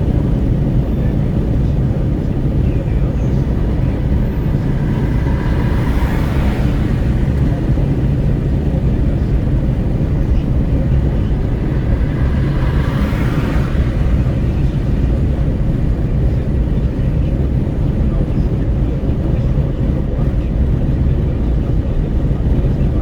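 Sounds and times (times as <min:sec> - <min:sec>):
car road rumble: 0:00.0 - 0:23.0
wind buffeting through open window: 0:00.0 - 0:23.0.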